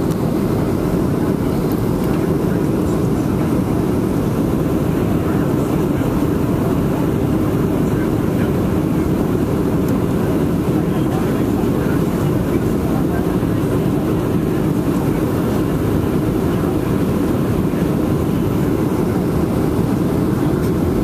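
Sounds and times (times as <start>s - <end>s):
airplane cabin roar: 0.0s - 21.0s.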